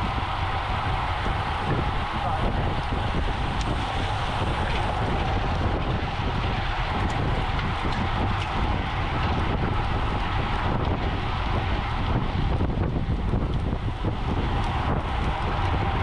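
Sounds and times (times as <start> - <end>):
low rumble: 0.0 - 16.0
wind rushing over microphone: 0.0 - 16.0.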